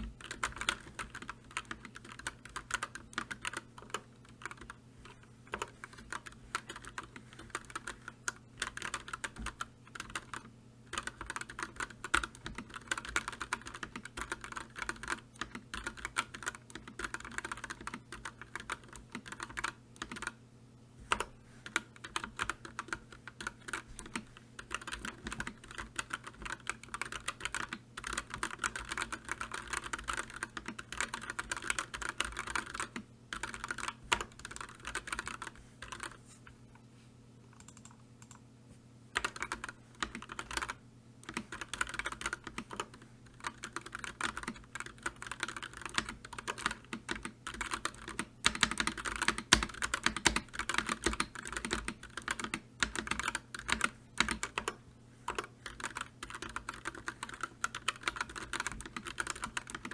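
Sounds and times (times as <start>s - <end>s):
typing on computer keyboard: 0.0s - 20.4s, 21.1s - 36.2s, 37.5s - 38.4s, 39.2s - 59.9s.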